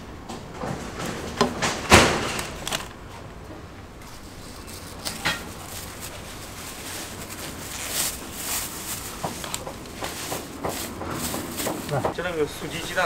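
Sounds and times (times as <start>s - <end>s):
plastic bag rustling: 0.8s - 3.1s, 4.0s - 13.0s.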